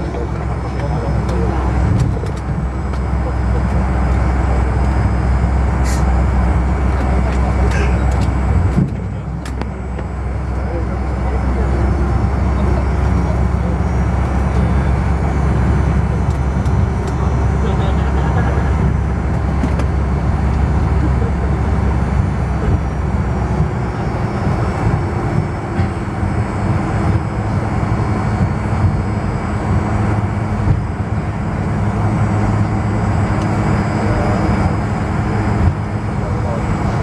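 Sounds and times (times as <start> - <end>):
jet engines deep rumble: 0.0 - 37.0.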